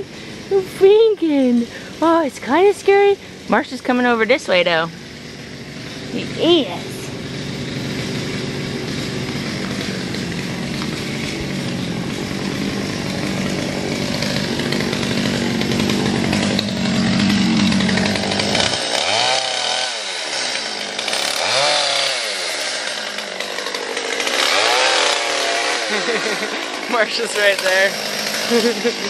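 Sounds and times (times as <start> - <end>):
chainsaw engine running and revving: 0.0 - 29.0.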